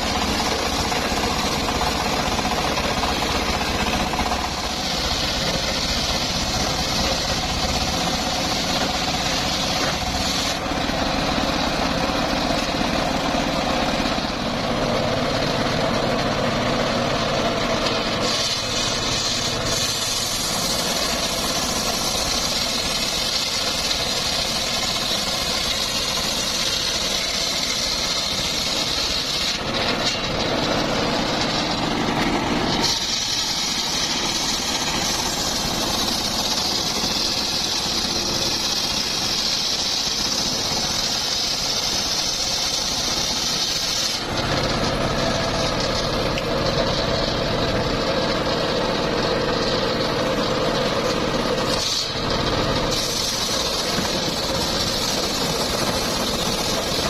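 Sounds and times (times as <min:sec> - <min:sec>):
circular saw ripping wood: 0:00.0 - 0:49.0, 0:49.7 - 0:57.0.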